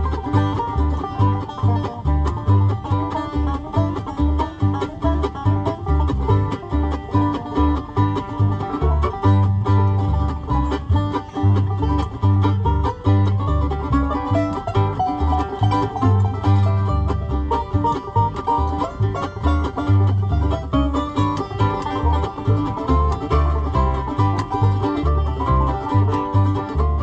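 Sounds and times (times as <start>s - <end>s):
banjo picking: 0.0s - 27.0s
low bass beat: 0.0s - 27.0s
strummed guitar: 0.0s - 27.0s.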